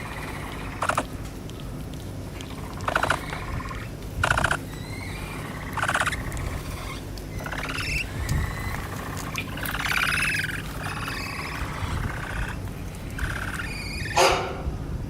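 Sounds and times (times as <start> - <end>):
capybara squeaking: 0.0 - 1.6, 2.4 - 14.6.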